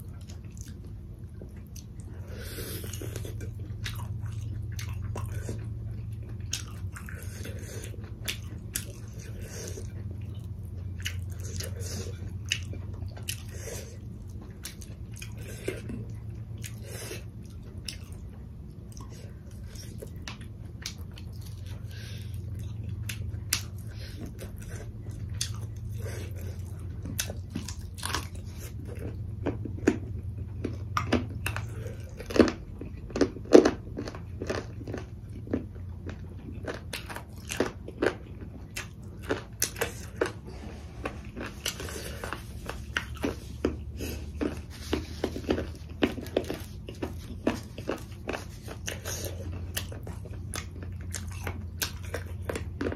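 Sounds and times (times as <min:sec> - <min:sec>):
chewing and biting food: 0:00.0 - 0:52.9
low steady hum: 0:00.0 - 0:52.9.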